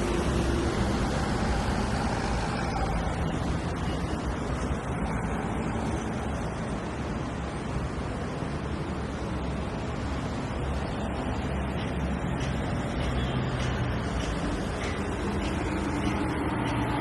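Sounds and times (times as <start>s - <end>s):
passing vehicles: 0.0s - 17.0s.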